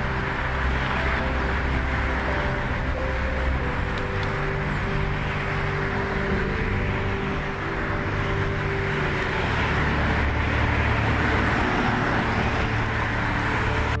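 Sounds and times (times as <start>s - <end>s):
boat engines droning: 0.0s - 14.0s
rushing water: 0.0s - 14.0s
wind noise: 0.0s - 14.0s.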